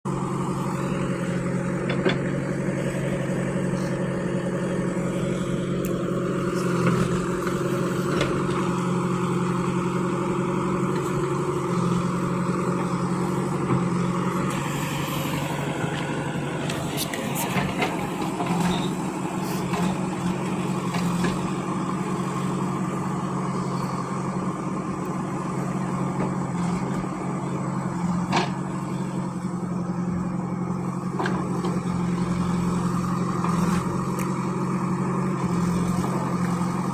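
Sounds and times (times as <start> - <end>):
heavy vehicle engine humming: 0.0 - 36.9.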